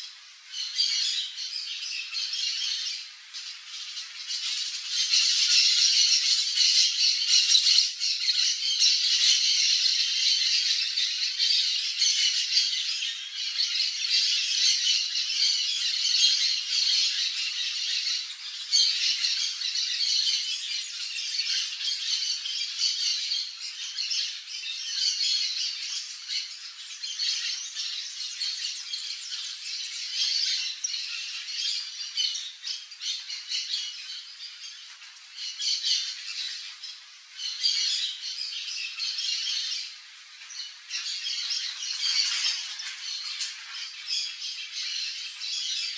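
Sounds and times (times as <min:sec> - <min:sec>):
chorus of harsh bird calls: 0:00.0 - 0:45.9.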